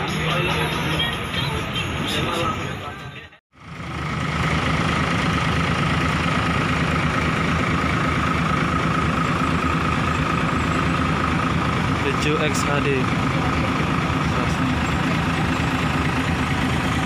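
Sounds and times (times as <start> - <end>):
bus engines idling: 0.0 - 17.0.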